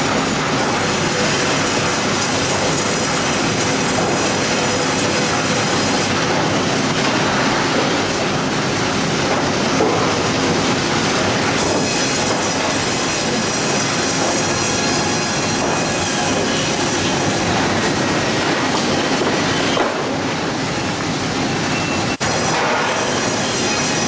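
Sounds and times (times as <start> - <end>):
machinery clatter and rumble: 0.0 - 24.0.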